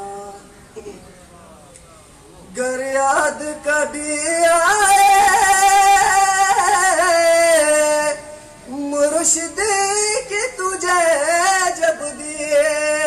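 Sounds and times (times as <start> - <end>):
man singing into a microphone: 0.0 - 0.5, 2.5 - 13.0.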